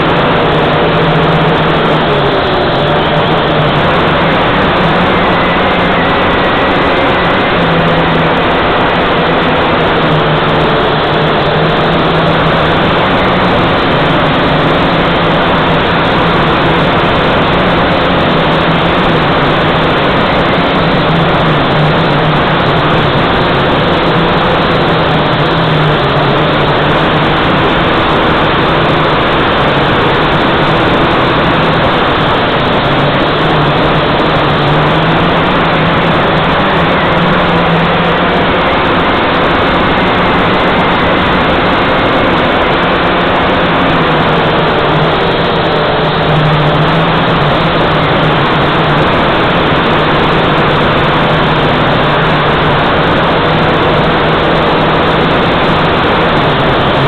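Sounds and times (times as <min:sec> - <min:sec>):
drone motors humming: 0:00.0 - 0:57.0
rushing noise: 0:00.0 - 0:57.0.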